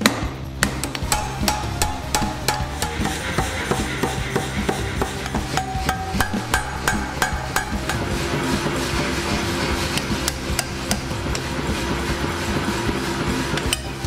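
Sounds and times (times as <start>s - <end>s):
power hammer striking hot steel: 0.0s - 14.0s.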